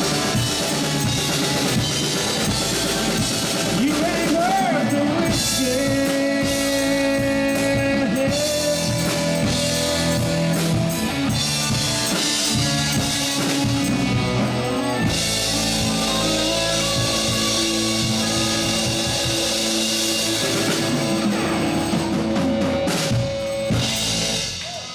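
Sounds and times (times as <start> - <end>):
electric guitar bending notes: 0.0 - 24.6
country-rock band playing: 0.0 - 24.9.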